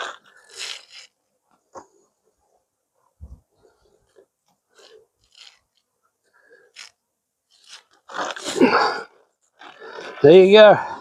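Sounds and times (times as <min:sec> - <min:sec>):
crunching and scraping sugar feed: 0:00.0 - 0:02.2, 0:03.6 - 0:11.0.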